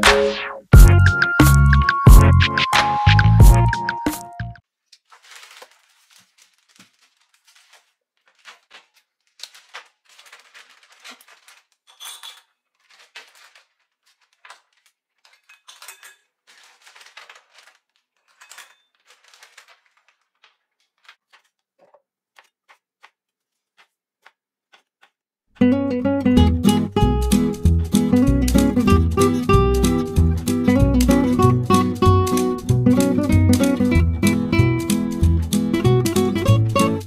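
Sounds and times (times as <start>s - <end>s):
plastic bags crinkling: 4.7s - 25.2s, 26.7s - 37.0s
plastic containers handled: 4.8s - 25.2s, 26.7s - 37.0s.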